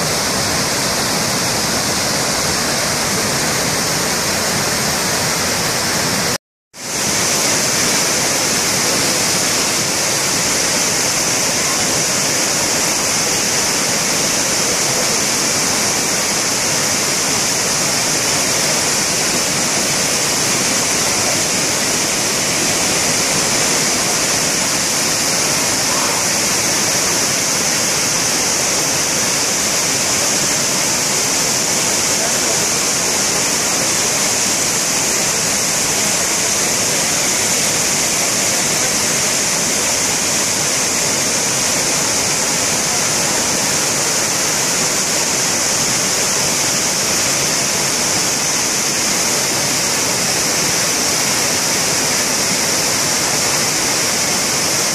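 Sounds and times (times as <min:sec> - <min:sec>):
waterfall pouring: 0:00.0 - 0:54.9.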